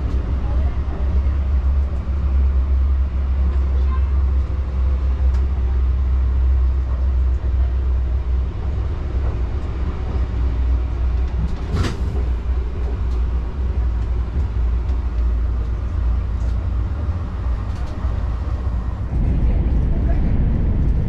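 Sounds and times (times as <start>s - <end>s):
train rumbling inside passenger car: 0.0s - 21.0s.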